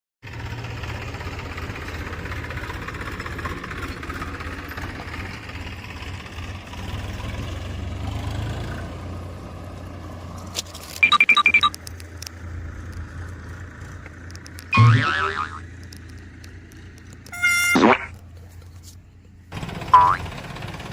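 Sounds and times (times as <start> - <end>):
vehicle engine running: 0.2 - 20.9.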